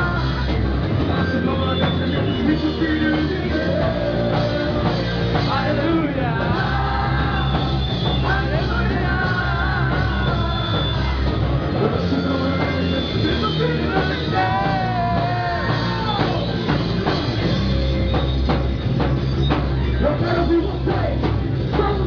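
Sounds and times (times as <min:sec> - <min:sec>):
drum kit striking: 0:00.0 - 0:22.0
rock band playing: 0:00.0 - 0:22.0.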